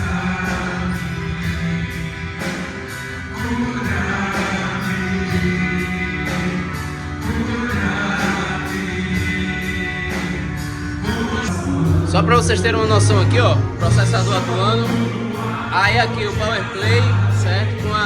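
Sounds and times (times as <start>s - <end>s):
worship band playing gospel song: 0.0s - 18.0s.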